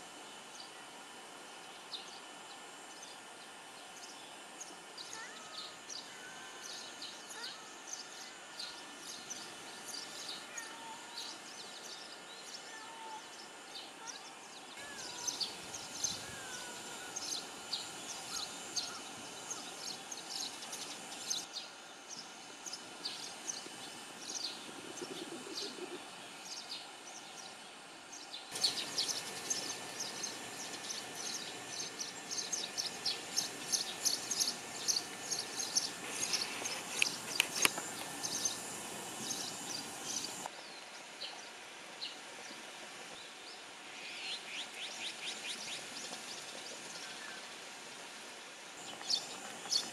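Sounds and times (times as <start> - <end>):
steady background hiss: 0.0 - 49.9
small birds chirping: 1.6 - 42.5, 48.8 - 49.9.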